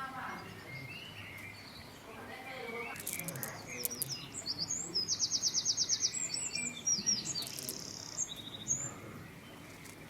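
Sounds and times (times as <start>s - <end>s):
small songbirds chirping: 0.0s - 10.0s.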